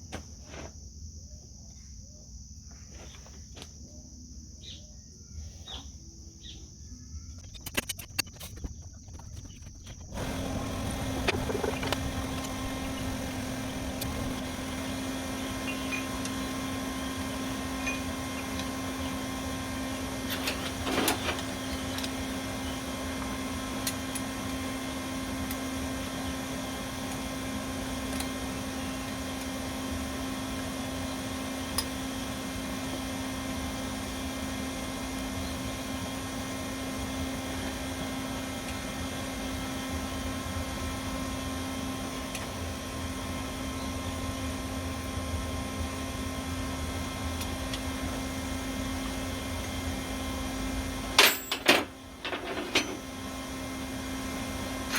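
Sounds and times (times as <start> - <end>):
motor or fan humming: 7.2 - 54.9.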